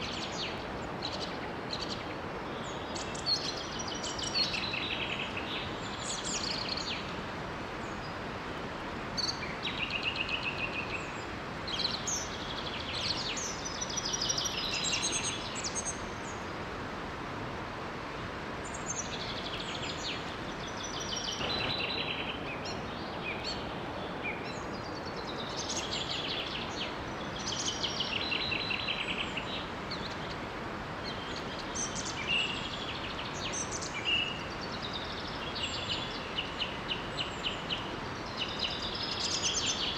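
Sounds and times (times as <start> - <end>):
small waterfall rushing: 0.0 - 39.9
songbirds chirping: 0.0 - 39.9.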